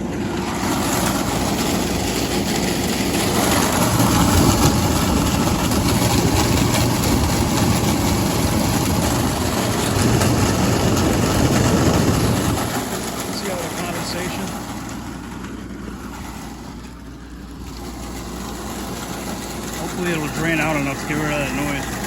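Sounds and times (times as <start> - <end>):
air conditioner rumbling: 0.0 - 22.0.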